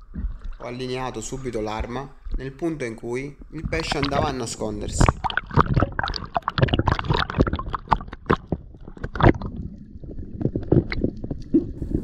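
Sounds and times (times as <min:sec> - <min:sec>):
sea water sloshing and splashing: 0:00.0 - 0:02.5, 0:03.4 - 0:12.0.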